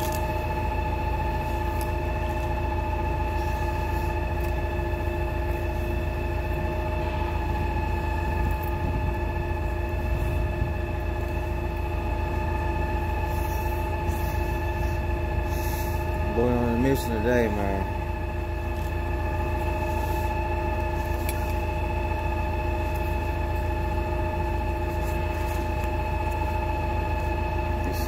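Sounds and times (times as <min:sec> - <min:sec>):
machinery rumbling and humming: 0:00.0 - 0:28.0.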